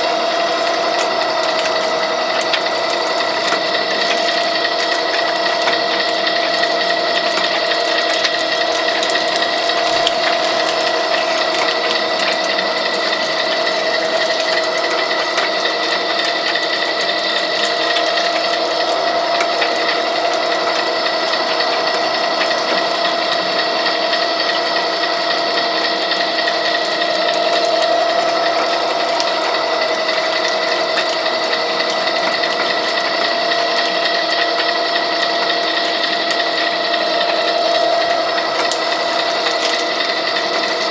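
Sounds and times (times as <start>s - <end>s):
machine whine with fast clicking: 0.0s - 40.9s.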